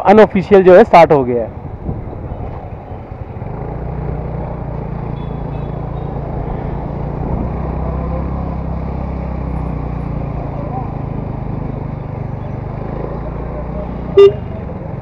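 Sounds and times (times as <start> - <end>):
road noise: 0.0 - 15.0
scooter engine running: 1.6 - 15.0.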